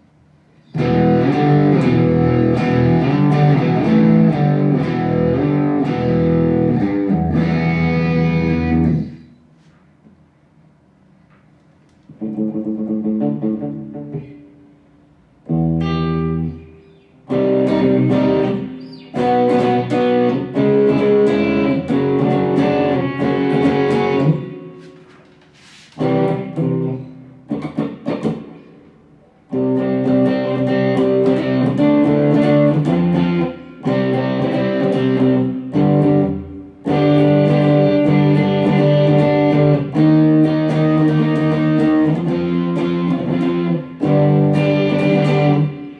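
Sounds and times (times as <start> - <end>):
electric guitar chords and phrases: 0.7 - 9.4, 12.0 - 25.1, 26.0 - 45.9.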